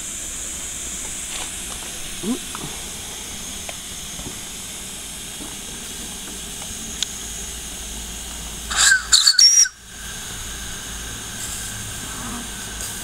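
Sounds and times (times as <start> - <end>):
shrill steam burst: 0.0 - 13.0
steam hissing: 0.0 - 13.0.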